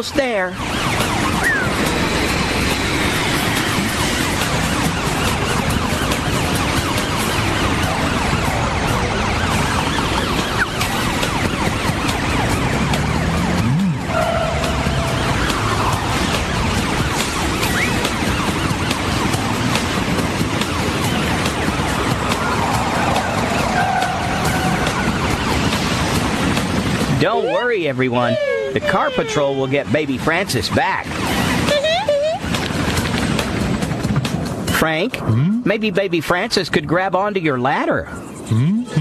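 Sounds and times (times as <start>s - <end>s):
faint siren wail: 0.0s - 33.0s
rushing vehicle noise: 0.0s - 39.0s.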